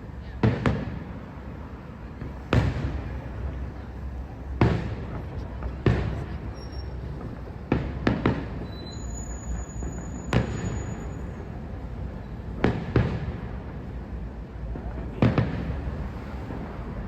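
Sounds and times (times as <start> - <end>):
fireworks banging: 0.3 - 1.3, 2.2 - 14.1, 14.7 - 17.0.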